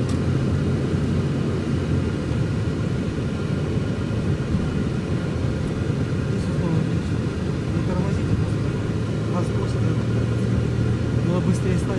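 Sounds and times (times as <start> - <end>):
car engine and road noise: 0.0 - 11.9.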